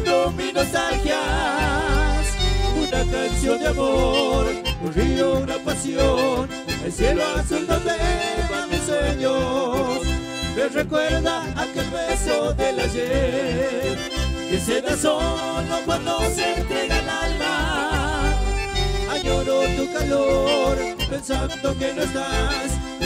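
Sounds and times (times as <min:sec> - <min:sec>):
accordion melody: 0:00.0 - 0:23.0
steady bass beat: 0:00.0 - 0:23.0.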